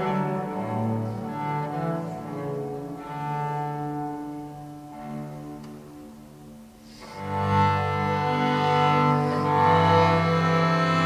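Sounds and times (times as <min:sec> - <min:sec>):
bowed cello: 0:00.0 - 0:11.0.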